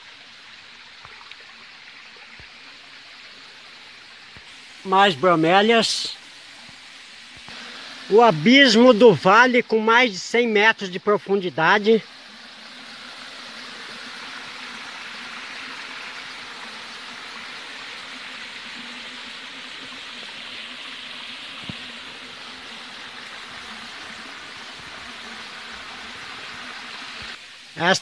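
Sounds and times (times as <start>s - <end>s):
stream water over rocks: 0.0s - 28.0s.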